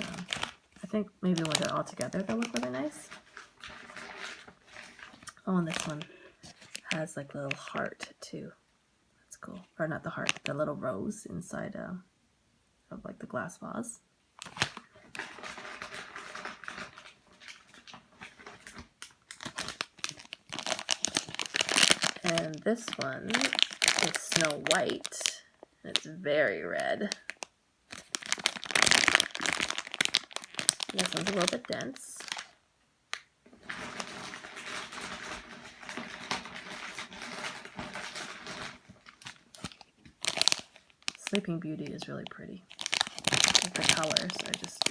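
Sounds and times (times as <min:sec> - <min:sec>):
plastic packaging crinkling: 0:00.0 - 0:07.9, 0:10.1 - 0:10.6, 0:14.4 - 0:26.1, 0:26.8 - 0:44.9.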